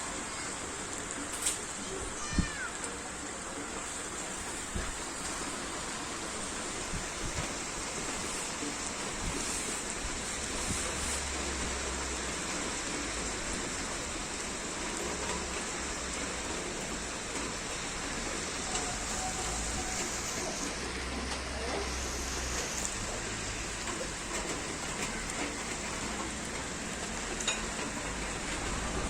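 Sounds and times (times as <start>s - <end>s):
heavy rain pattering: 0.0s - 29.0s.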